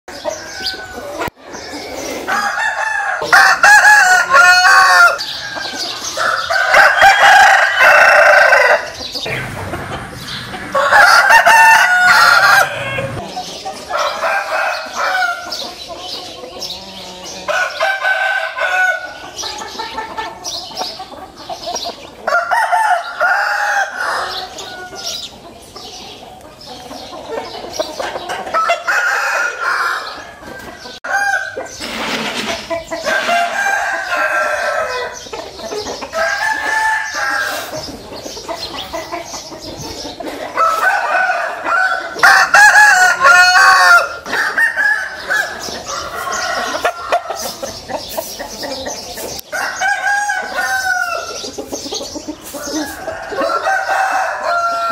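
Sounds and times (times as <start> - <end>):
roosters crowing: 0.1 - 20.3, 21.7 - 25.9, 27.0 - 54.9.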